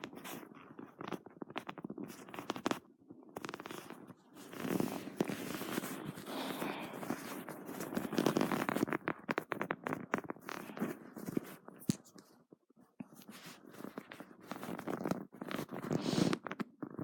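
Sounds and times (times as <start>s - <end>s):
rustling and scratching: 0.0s - 17.0s
small clicks and scrapes: 0.0s - 17.0s.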